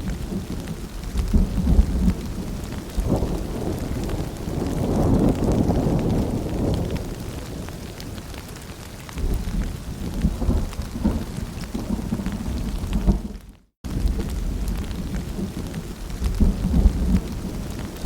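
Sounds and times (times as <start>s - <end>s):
rolling thunder: 0.0s - 8.1s, 9.2s - 18.0s
steady rain: 0.0s - 18.0s.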